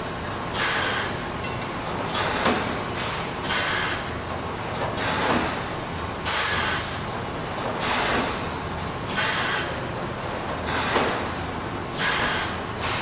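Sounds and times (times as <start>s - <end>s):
industrial machine running: 0.0s - 13.0s.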